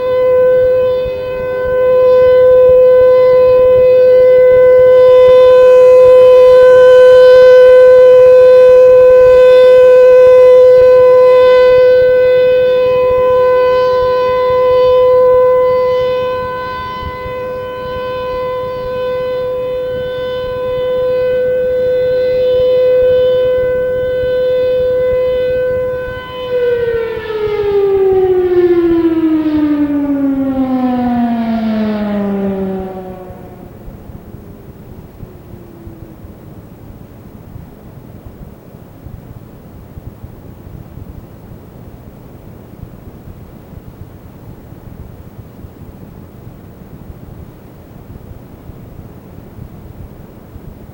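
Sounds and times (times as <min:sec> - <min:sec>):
civil defense siren wailing: 0:00.0 - 0:48.1.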